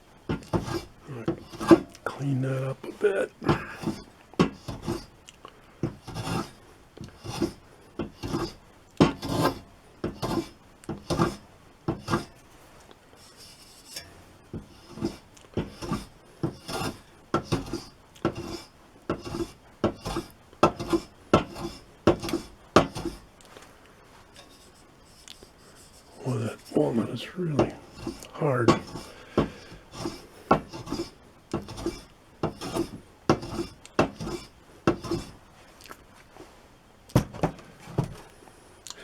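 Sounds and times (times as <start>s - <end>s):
hand plane scraping wood: 0.3s - 5.2s, 5.8s - 12.4s, 13.2s - 13.9s, 14.6s - 23.3s, 24.4s - 35.4s.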